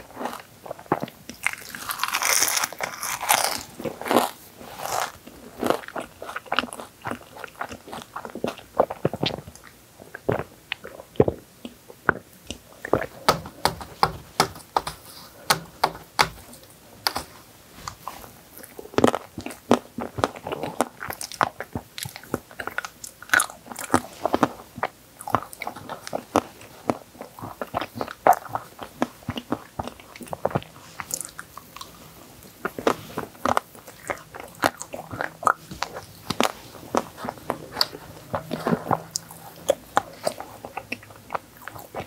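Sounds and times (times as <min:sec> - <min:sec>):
biting and chewing crunches: 0:00.0 - 0:42.0.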